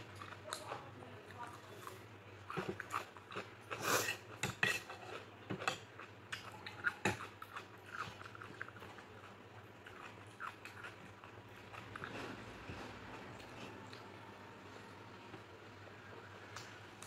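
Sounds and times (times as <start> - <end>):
chewing: 0.0 - 14.2.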